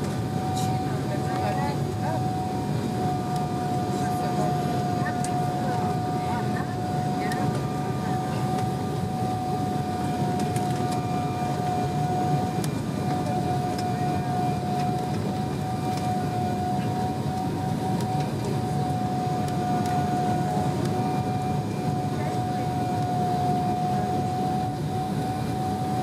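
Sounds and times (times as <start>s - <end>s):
jet cabin rumble: 0.0s - 26.0s
steady whining tone: 0.0s - 26.0s.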